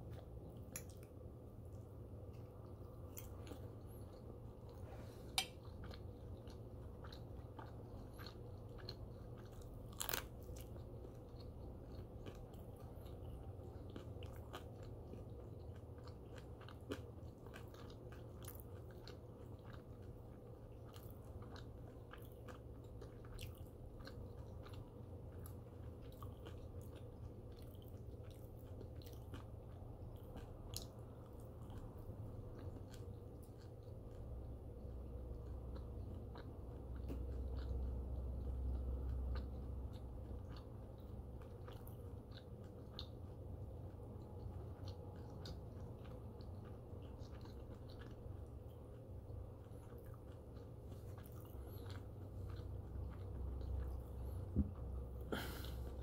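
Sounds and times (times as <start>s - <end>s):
chewing crispy bacon: 0.0s - 56.0s
steady low hum: 0.0s - 56.0s.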